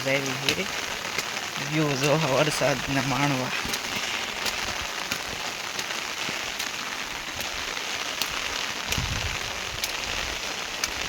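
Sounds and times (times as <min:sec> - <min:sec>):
heavy rain falling: 0:00.0 - 0:11.0
raindrop ticks: 0:00.0 - 0:11.0.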